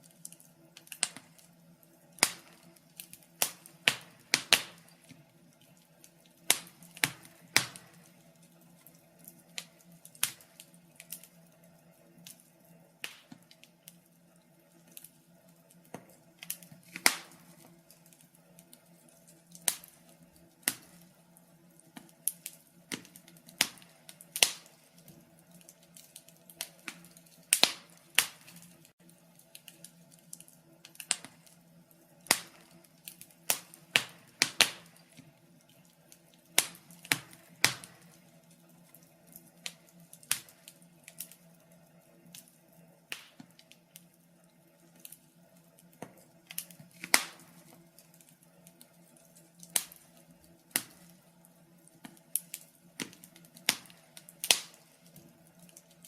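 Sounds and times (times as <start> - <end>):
faint steady hum: 0.0 - 56.0
wood fire crackling: 0.0 - 56.0.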